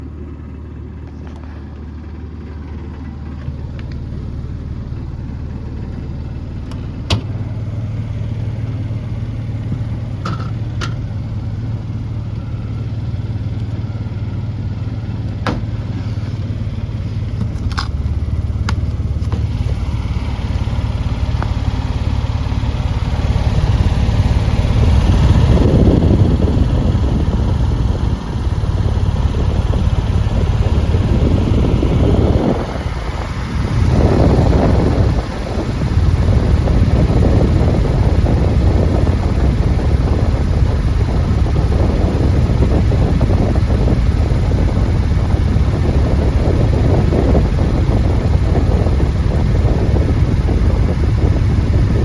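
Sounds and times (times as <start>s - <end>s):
blower fan humming: 0.0s - 52.0s.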